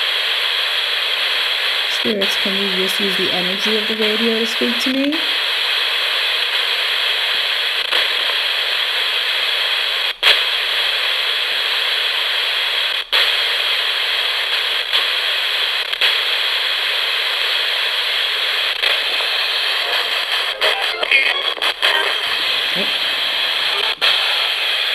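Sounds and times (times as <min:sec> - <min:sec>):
radio static hiss: 0:00.0 - 0:24.9.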